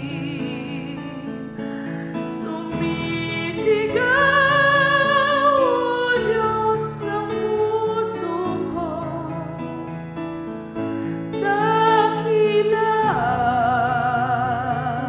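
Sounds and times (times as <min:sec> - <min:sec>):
woman singing: 0:00.0 - 0:09.7, 0:11.3 - 0:15.0.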